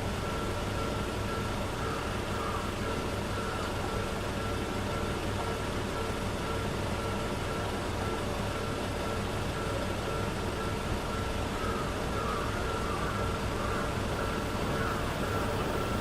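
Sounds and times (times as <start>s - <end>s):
railroad crossing bell ringing: 0.0s - 16.0s
rumble of traffic and trains: 0.0s - 16.0s.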